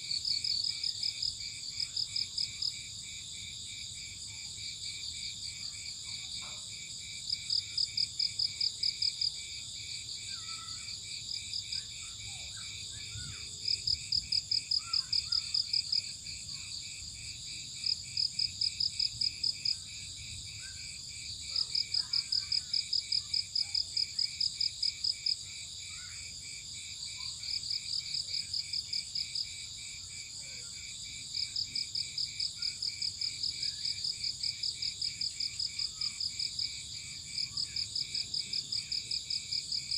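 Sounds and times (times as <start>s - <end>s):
faint low insect calls: 0.0s - 39.9s
crickets chirping: 0.1s - 39.9s.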